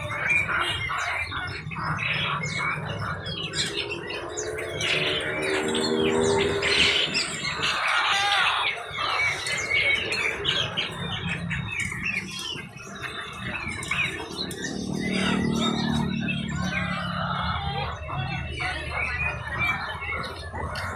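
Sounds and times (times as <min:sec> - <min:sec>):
caged birds chirping and squawking: 0:00.0 - 0:20.9.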